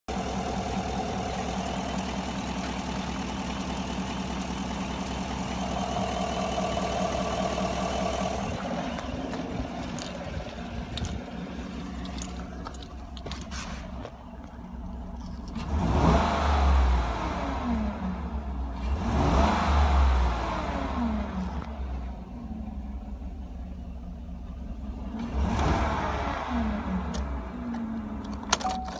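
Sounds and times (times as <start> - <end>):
truck engine idling and revving: 0.0 - 28.9.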